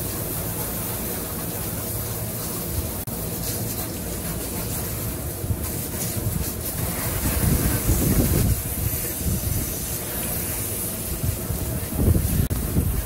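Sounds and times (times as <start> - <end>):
hose water spraying: 0.0 - 13.0.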